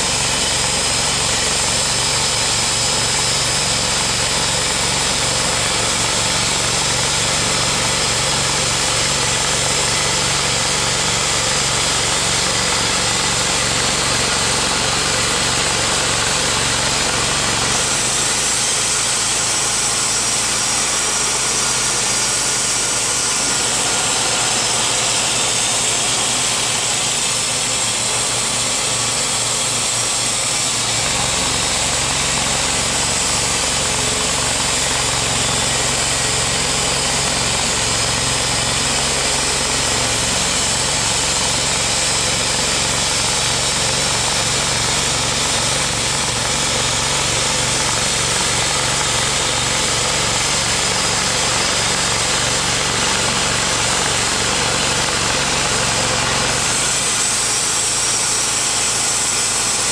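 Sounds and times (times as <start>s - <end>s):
band blade sawing log: 0.0s - 59.9s
sawmill engine running: 0.0s - 59.9s.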